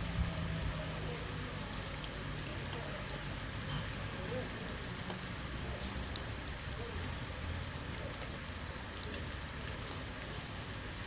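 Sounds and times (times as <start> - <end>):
raindrop ticks: 0.0 - 10.8
steady rain hiss: 0.0 - 11.0.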